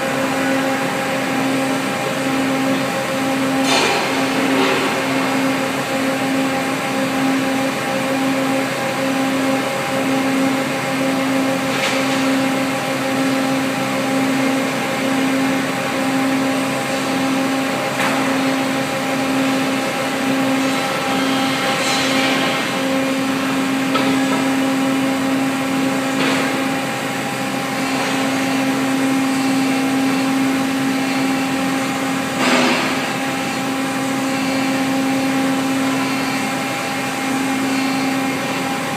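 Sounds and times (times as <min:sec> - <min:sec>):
industrial machinery drone: 0:00.0 - 0:38.9.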